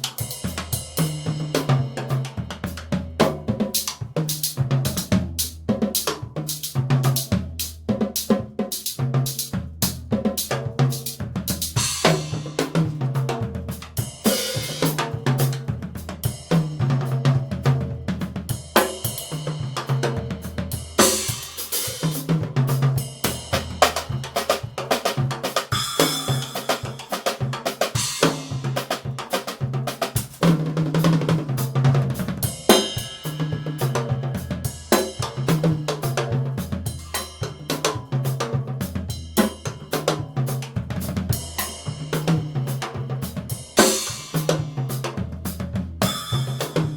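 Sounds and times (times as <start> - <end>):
drum kit being played: 0.0 - 46.9.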